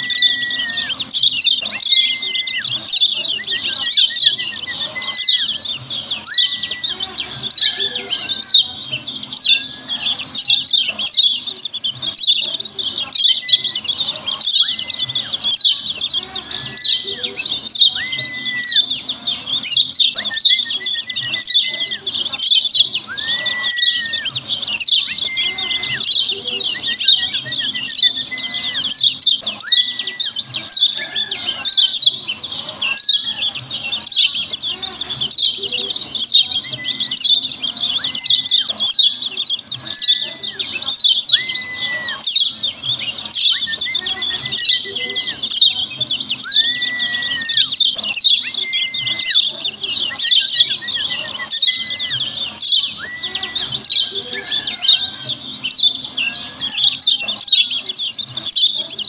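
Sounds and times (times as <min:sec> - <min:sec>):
bird chirping rapidly: 0:00.0 - 0:59.0.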